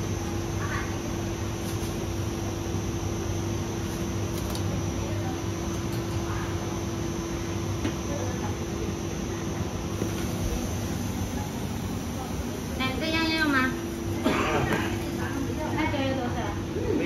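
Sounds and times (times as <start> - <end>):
machine hum: 2.3 - 17.0.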